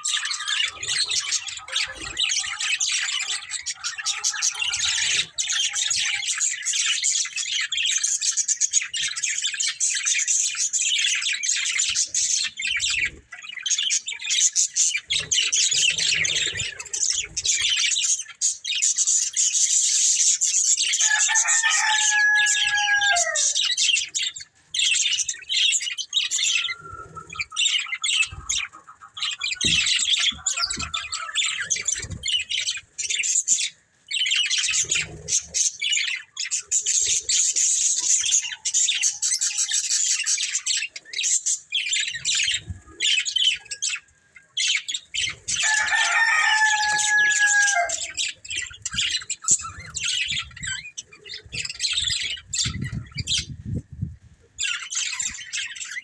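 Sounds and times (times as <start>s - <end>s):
budgerigars chattering: 0.0s - 53.8s, 54.6s - 56.0s.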